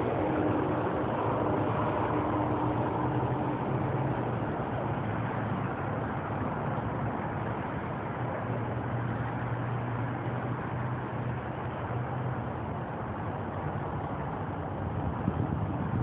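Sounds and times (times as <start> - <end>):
low engine hum: 0.0 - 16.0
road noise: 0.0 - 16.0.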